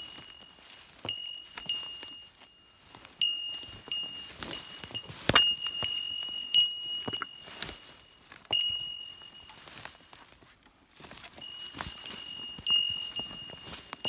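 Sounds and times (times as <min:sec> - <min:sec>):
footsteps crunching through leaves: 0:00.0 - 0:14.0
small bell jingling: 0:00.0 - 0:14.0.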